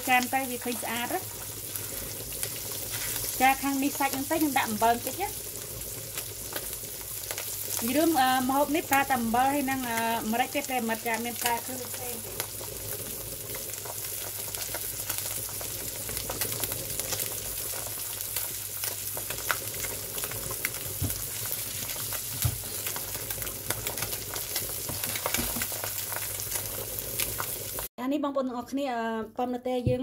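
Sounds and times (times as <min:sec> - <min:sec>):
fish frying in butter: 0:00.0 - 0:27.9.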